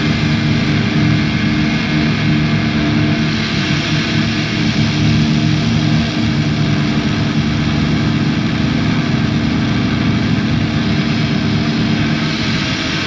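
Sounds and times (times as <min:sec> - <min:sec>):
dense noise music: 0:00.0 - 0:13.0
low droning tones: 0:00.0 - 0:13.0.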